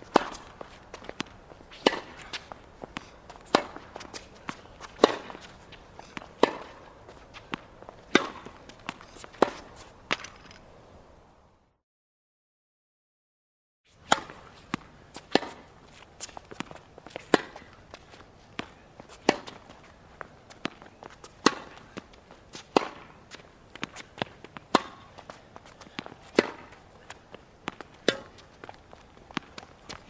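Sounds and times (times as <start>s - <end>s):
tennis balls struck by rackets: 0.0s - 10.3s, 14.0s - 30.0s.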